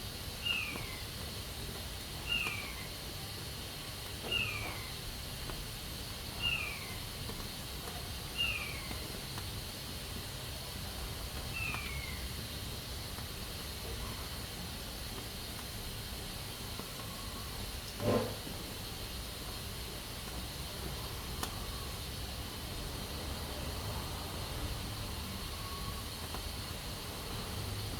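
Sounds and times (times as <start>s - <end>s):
pressure cooker hissing steam: 0.0s - 27.9s.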